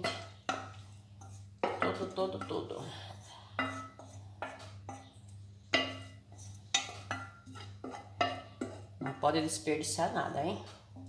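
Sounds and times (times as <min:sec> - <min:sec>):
wooden spoon scraping metal pan: 0:00.0 - 0:11.0.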